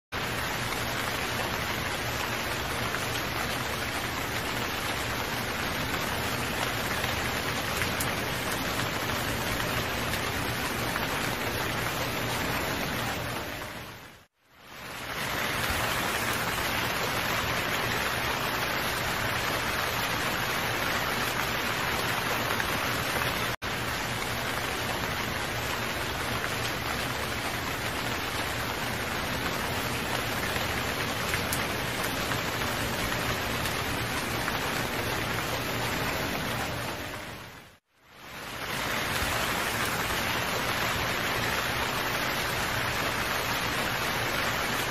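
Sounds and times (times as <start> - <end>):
steady rainfall: 0.1 - 44.9.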